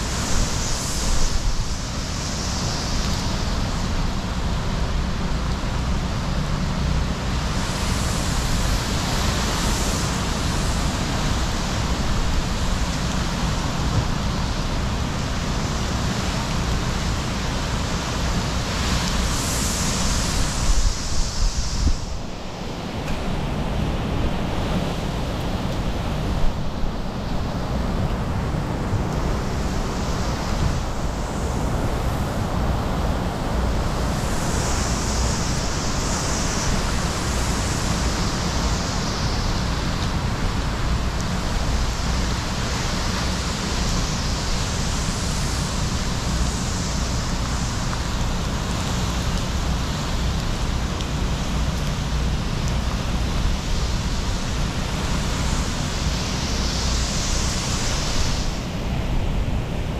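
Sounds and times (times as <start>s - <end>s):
heavy rain hiss: 0.0s - 59.9s
wind rumbling on microphone: 0.0s - 59.9s.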